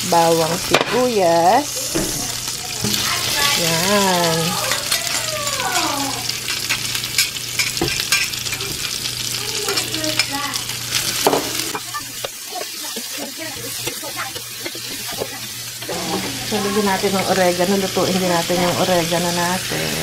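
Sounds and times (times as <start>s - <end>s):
onions sizzling on a griddle: 0.0s - 20.0s.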